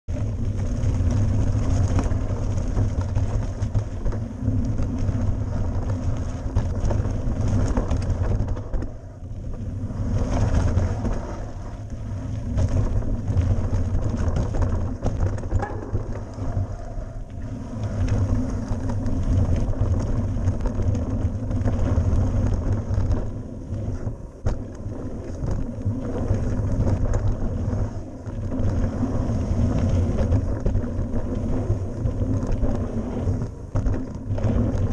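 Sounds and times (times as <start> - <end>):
bike tyre and trail noise: 0.0 - 34.9
wind rumbling over microphone: 0.0 - 34.9.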